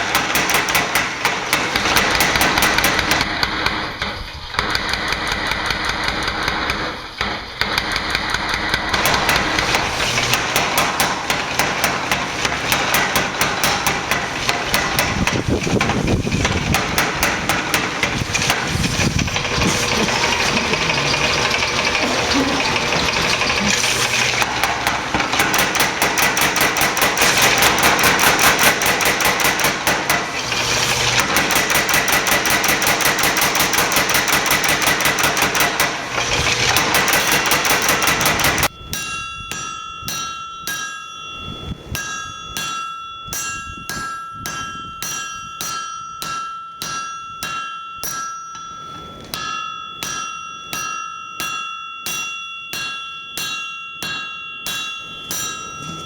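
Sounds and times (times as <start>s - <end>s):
hand hammer ringing on anvil: 0.0s - 3.3s, 8.9s - 56.0s
power hammer pounding steel: 0.0s - 48.6s, 49.3s - 56.0s.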